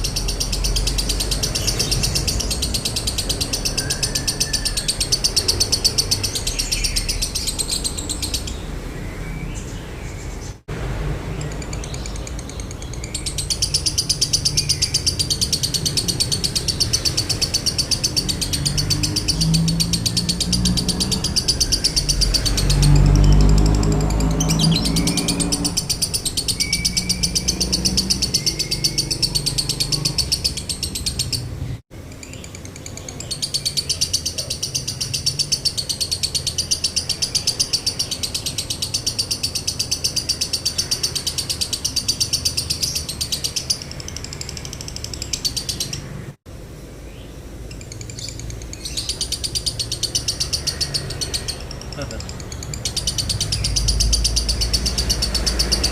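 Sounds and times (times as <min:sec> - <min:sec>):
lovebird chattering: 0:00.0 - 0:10.6, 0:11.4 - 0:46.3, 0:47.6 - 0:55.9.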